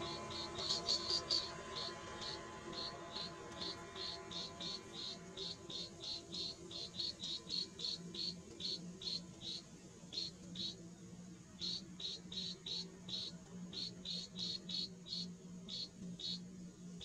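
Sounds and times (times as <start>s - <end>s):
high-pitched chirps: 0.0s - 10.8s, 11.6s - 16.4s.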